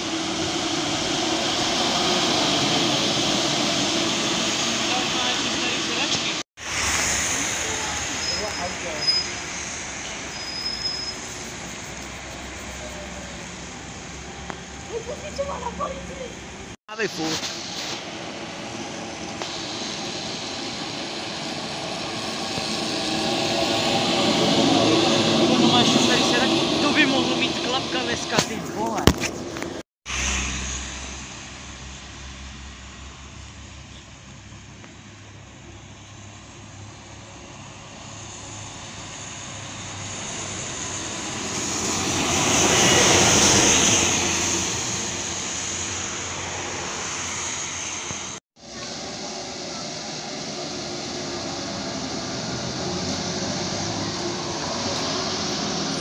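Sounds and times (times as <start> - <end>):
trolleybus approaching: 0.0 - 56.0.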